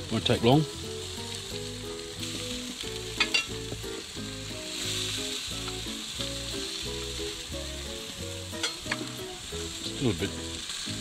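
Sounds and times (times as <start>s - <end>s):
fish sizzling on a grill: 0.0s - 11.0s.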